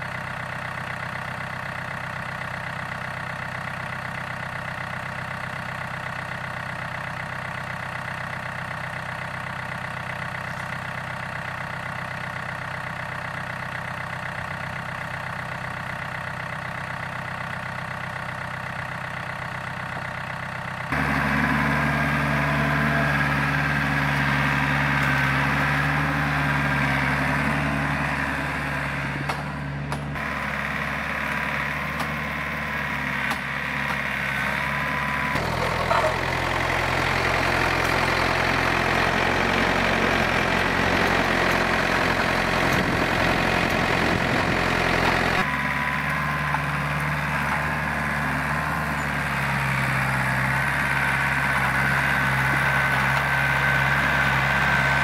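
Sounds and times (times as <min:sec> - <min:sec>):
diesel tractor engine idling: 0:00.0 - 0:55.0
loud close engine running: 0:00.0 - 0:55.0.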